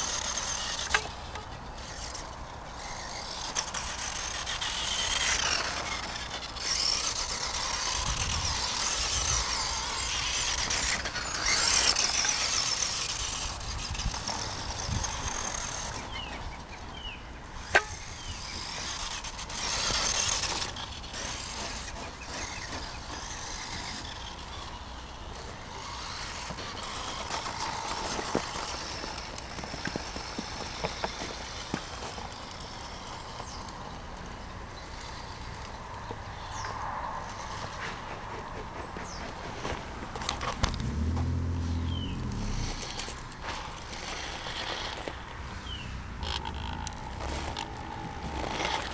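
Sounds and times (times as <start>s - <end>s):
electric motor and gears whining: 0.0s - 16.6s, 17.5s - 37.7s, 40.2s - 48.9s.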